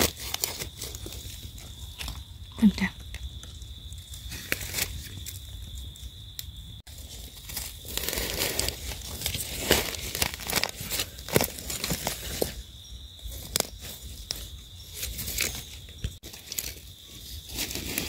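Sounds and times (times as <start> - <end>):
dry leaves and soil crackling: 0.0 - 18.0.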